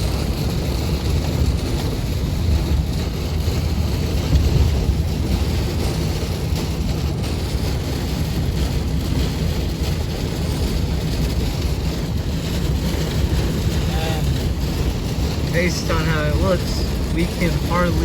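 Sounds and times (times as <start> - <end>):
engine and tyres rumbling: 0.0 - 18.0
rain and wind hissing: 0.0 - 18.0.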